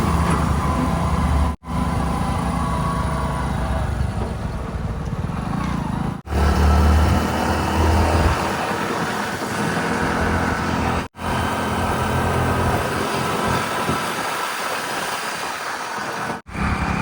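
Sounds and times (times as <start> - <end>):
heavy diesel engines running: 0.0 - 17.0.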